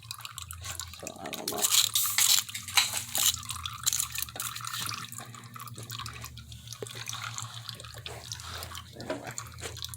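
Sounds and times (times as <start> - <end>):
liquid dripping: 0.0 - 9.9.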